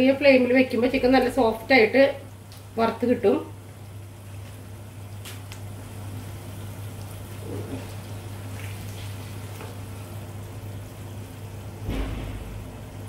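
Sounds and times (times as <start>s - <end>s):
steady low hum: 0.0s - 13.0s
chicken frying in oil: 0.2s - 13.0s.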